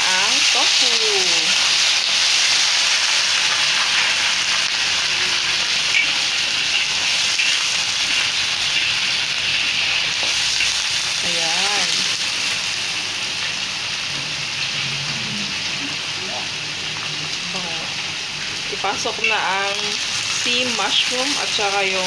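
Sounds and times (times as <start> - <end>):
tofu sizzling in hot oil: 0.0 - 22.0.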